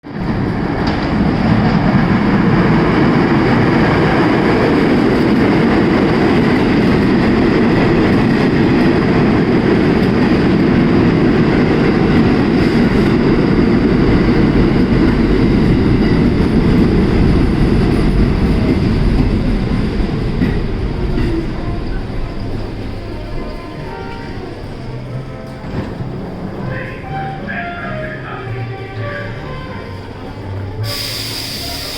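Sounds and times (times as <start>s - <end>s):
subway train wheels rumbling: 0.0s - 31.9s.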